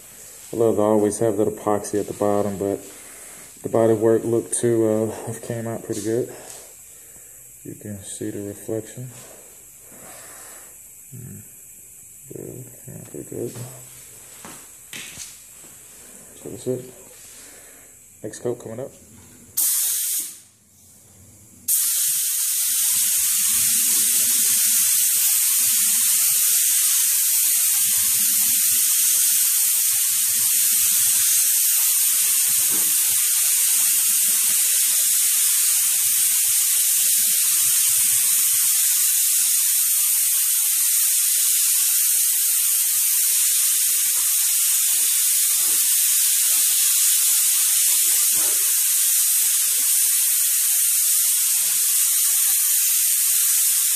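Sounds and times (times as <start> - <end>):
spray gun air hiss: 0.0 - 18.6, 19.4 - 21.0, 21.7 - 53.9.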